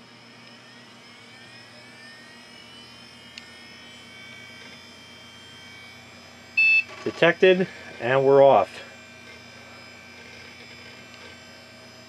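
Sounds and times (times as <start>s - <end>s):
computer fans humming: 0.0s - 12.0s
hard drive whine: 0.0s - 12.0s.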